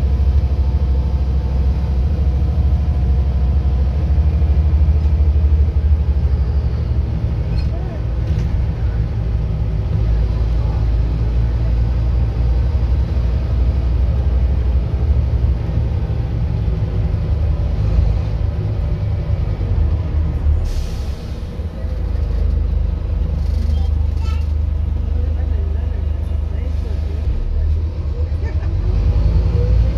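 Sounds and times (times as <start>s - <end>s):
bus engine rumble: 0.0s - 29.9s.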